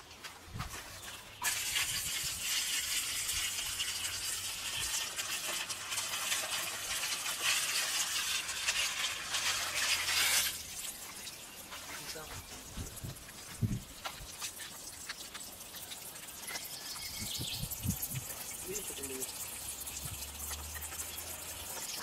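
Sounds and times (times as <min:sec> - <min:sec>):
water from hose splashing on gravel: 0:00.0 - 0:22.0.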